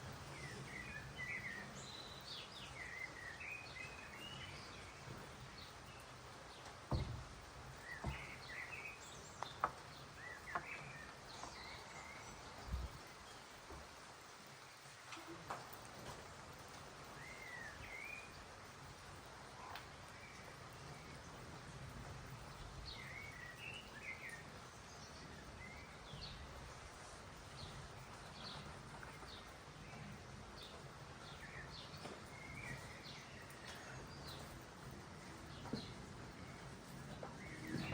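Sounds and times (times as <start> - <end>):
songbirds singing and chirping: 0.0 - 37.9.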